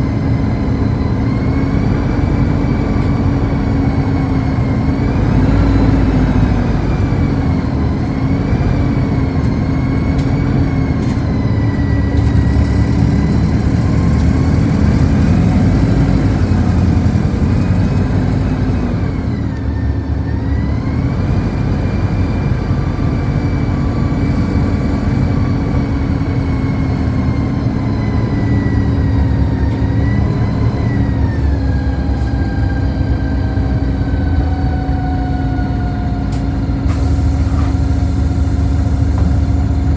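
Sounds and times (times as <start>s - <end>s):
bus engine rumble: 0.0s - 39.9s
drivetrain whine: 0.0s - 39.9s.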